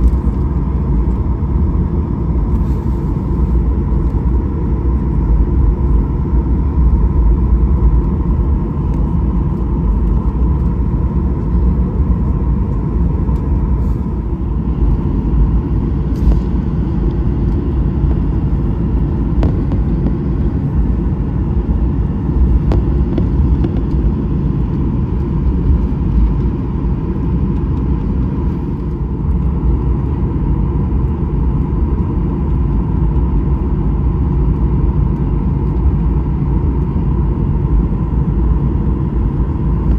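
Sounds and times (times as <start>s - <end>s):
aircraft cabin rumble: 0.0s - 39.9s
constant hum: 0.0s - 39.9s.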